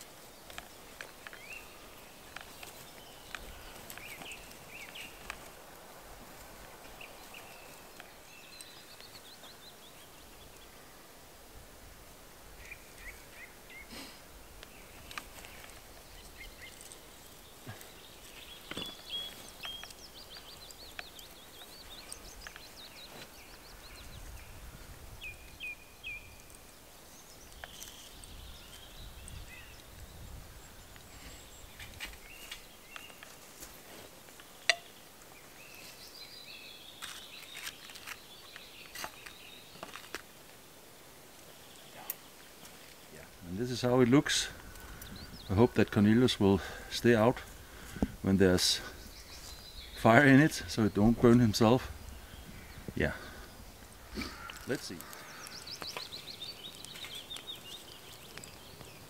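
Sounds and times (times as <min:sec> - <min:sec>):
songbirds trilling: 0:00.0 - 0:11.2, 0:12.3 - 0:59.0.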